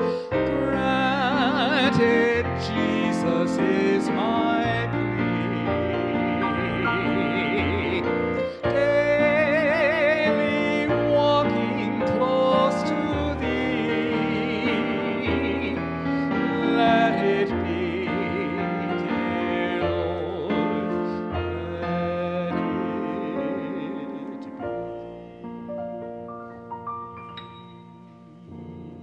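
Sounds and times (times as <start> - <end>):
operatic singing: 0.0 - 26.3, 27.4 - 29.0
piano accompaniment: 0.0 - 29.0.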